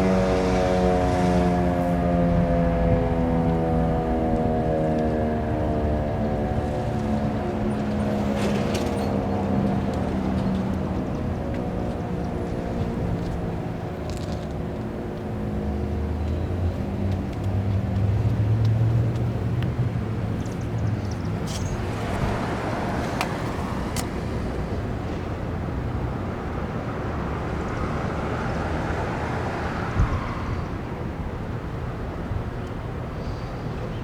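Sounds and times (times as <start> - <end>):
car passing: 0.0 - 14.4, 18.0 - 32.1.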